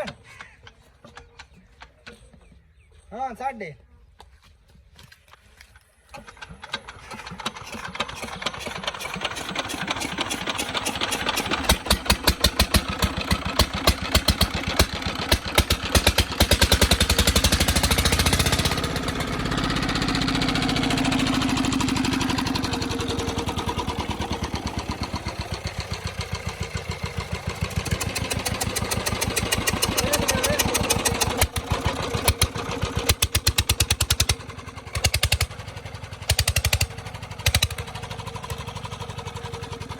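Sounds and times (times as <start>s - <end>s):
diesel engine chugging: 6.1s - 39.9s.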